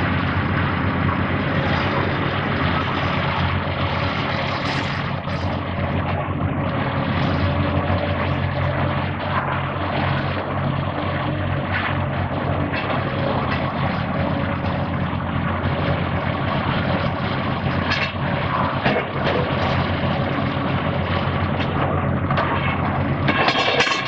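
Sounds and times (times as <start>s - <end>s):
excavator diesel engines humming: 0.0s - 24.0s
rumble of machinery: 0.0s - 24.0s.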